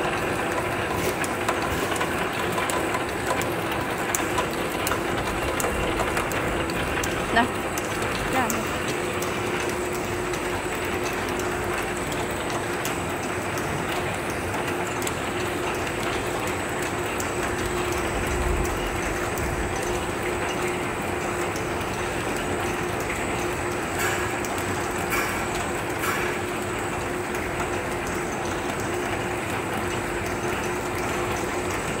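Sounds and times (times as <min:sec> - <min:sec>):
constant machine hum: 0:00.0 - 0:32.0
machine clatter of gears: 0:00.0 - 0:32.0.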